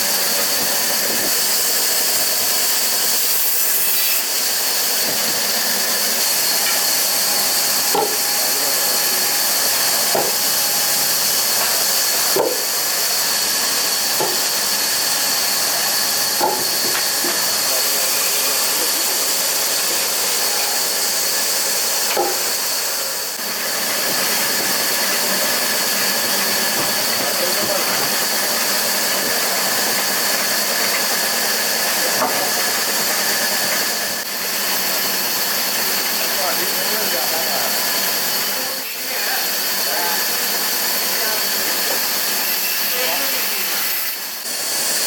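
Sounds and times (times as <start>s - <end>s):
loud steady hiss: 0.0s - 45.0s.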